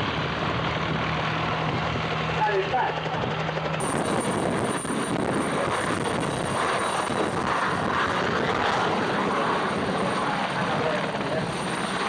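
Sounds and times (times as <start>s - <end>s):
aircraft engines running: 0.0s - 12.0s.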